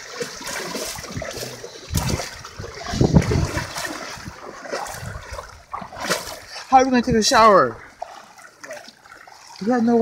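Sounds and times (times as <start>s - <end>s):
water sloshing around wading legs: 0.0s - 10.0s.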